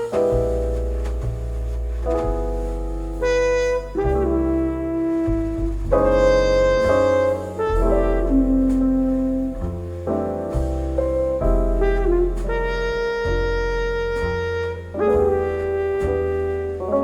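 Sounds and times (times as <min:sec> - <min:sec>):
deep bass notes: 0:00.0 - 0:17.0
horn playing melody: 0:00.0 - 0:17.0
piano: 0:00.0 - 0:17.0.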